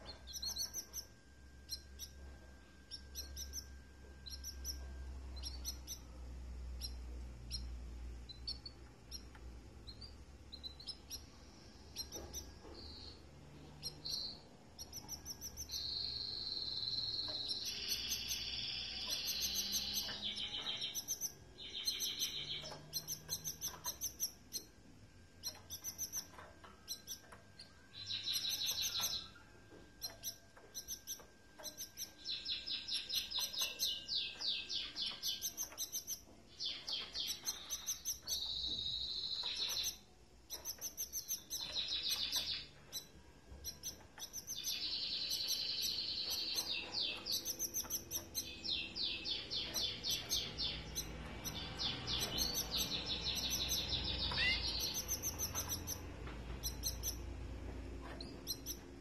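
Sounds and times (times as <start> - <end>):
canaries trilling: 0.0 - 59.0.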